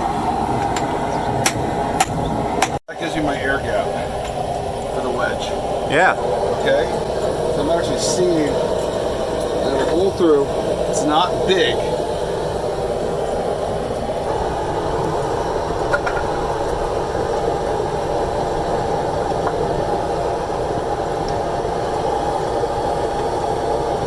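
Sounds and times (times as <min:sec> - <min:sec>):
steady mechanical drone: 0:00.0 - 0:24.0.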